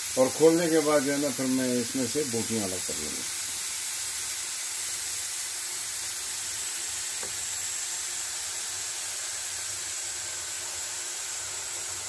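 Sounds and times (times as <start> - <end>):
steam hissing from pressure cooker: 0.0 - 12.0.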